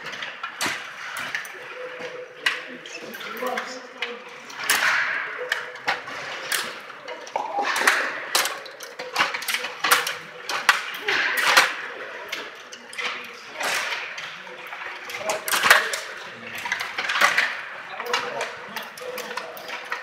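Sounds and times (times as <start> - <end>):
plastic figures and puck clacking: 0.0 - 20.0
table hockey rods pushed and twisted: 2.4 - 20.0.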